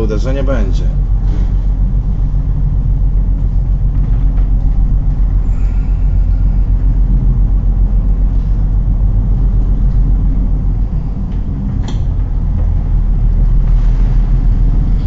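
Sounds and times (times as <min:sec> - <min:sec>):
ship low rumble: 0:00.0 - 0:15.0
strong wind: 0:00.0 - 0:15.0.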